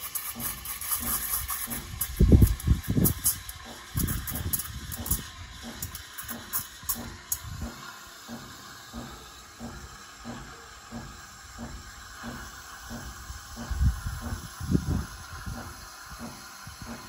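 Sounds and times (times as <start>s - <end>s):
steam wand hissing: 0.0s - 17.0s.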